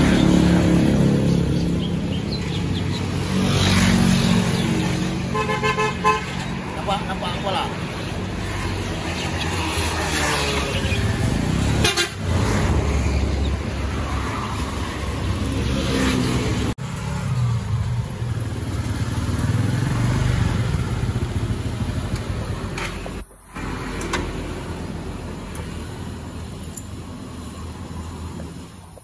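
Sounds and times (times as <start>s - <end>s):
scooters and cars driving past: 0.0s - 29.0s.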